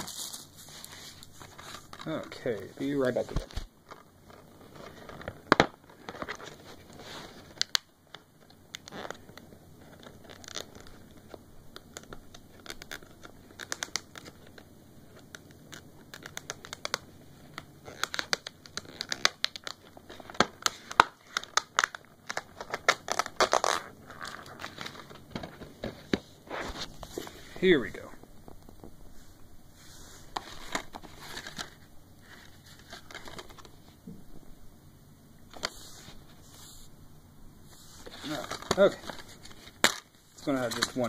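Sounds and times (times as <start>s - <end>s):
plastic packaging crinkling and tearing: 0.0s - 27.6s, 30.3s - 33.9s, 38.0s - 41.0s.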